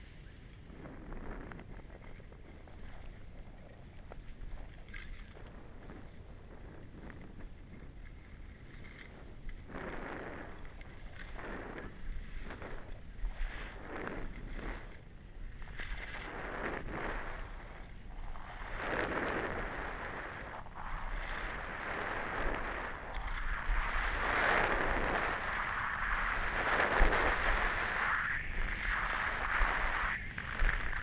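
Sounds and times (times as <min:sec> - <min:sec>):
skis scraping over snow: 0:00.0 - 0:31.0
wind rumbling on microphone: 0:00.0 - 0:31.0.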